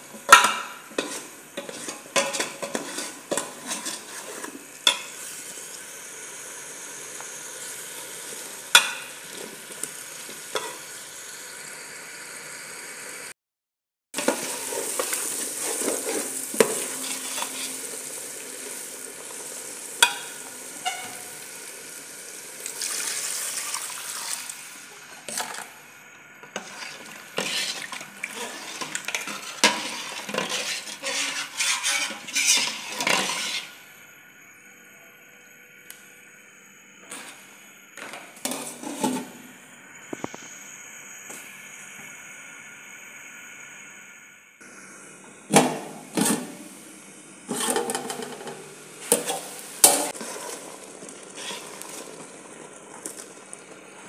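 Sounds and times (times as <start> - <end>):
food sizzling in pot: 0.0 - 13.4, 14.2 - 54.0.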